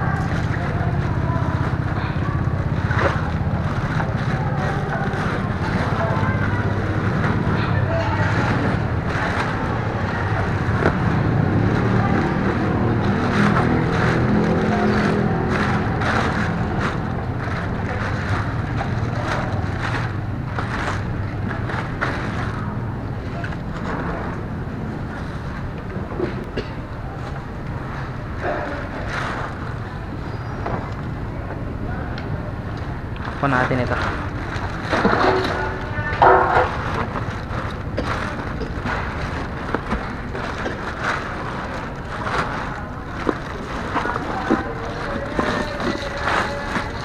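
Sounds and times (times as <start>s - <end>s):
vehicle engine running: 0.0s - 26.5s, 27.1s - 47.0s.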